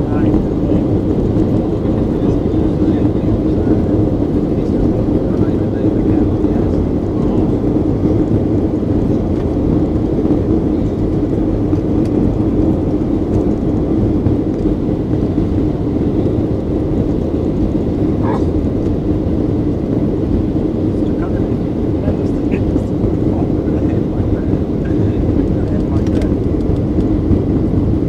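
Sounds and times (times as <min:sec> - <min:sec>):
jet airliner engines in flight: 0:00.0 - 0:28.0.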